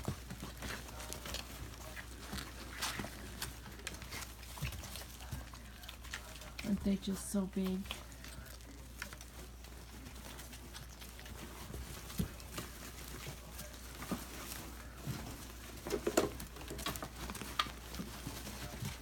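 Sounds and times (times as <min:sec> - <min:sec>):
puppies scrabbling in wood shavings: 0:00.0 - 0:19.0.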